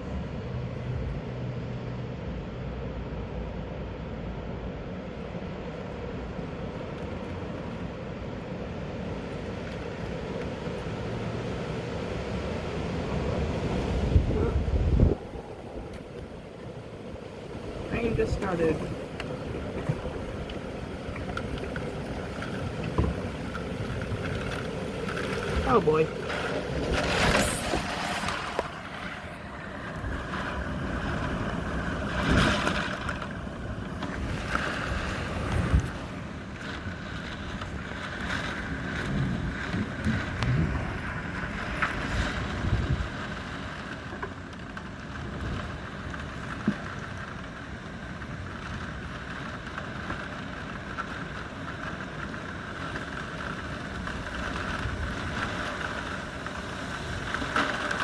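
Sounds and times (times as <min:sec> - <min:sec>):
heavy rain falling: 0:06.0 - 0:58.0.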